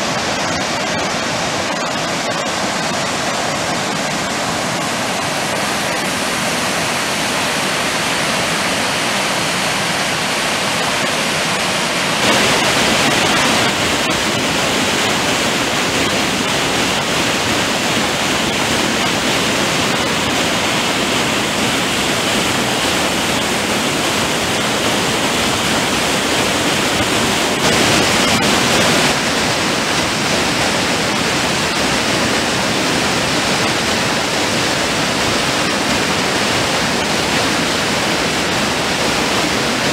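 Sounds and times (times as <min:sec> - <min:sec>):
rushing floodwater: 0:00.0 - 0:39.9
stream tumbling over rocks: 0:00.0 - 0:39.9.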